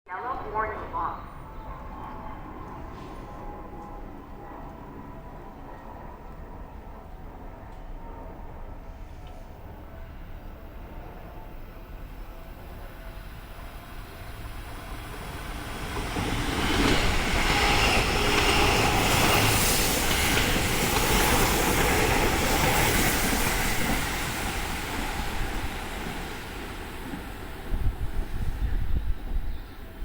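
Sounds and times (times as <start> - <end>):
electric train passing: 0.1 - 30.0.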